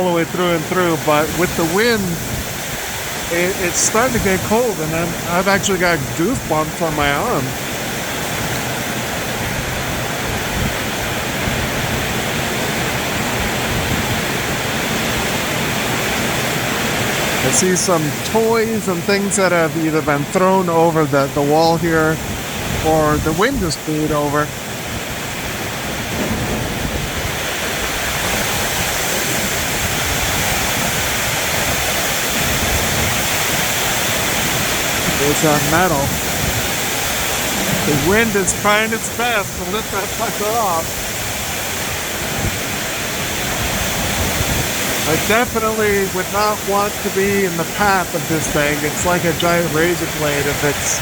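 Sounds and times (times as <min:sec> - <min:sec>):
heavy rain drumming on metal roof: 0:00.0 - 0:51.0
strong wind: 0:00.0 - 0:51.0.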